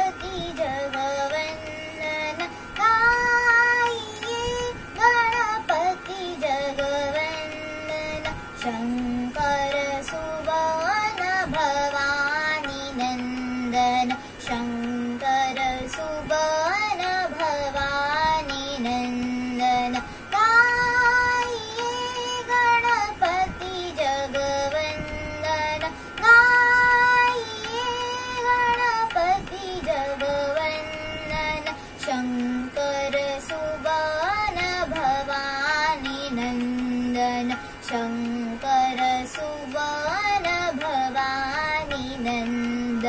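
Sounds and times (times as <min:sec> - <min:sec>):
girl singing devotional song: 0:00.0 - 0:43.0.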